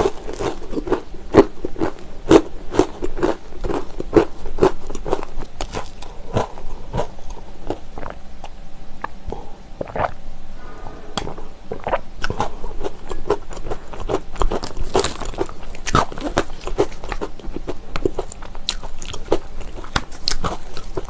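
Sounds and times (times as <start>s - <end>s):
pretzels crunching while chewed: 0.0s - 8.5s, 12.2s - 21.0s.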